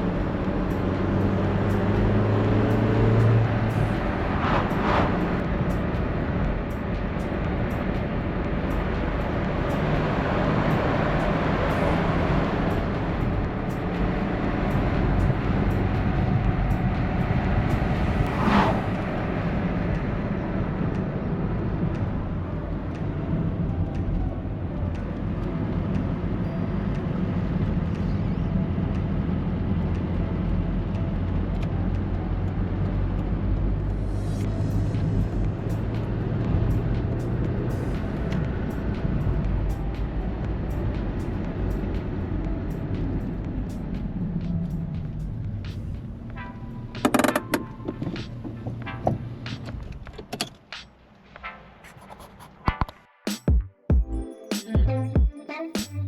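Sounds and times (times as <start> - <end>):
tyre and road noise: 0.0 - 53.5.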